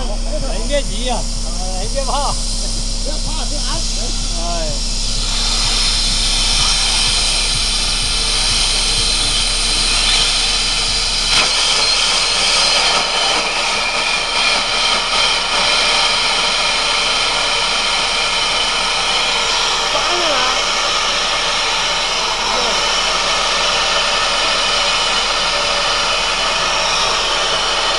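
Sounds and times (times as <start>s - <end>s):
pneumatic rock drill hissing: 0.0s - 27.9s.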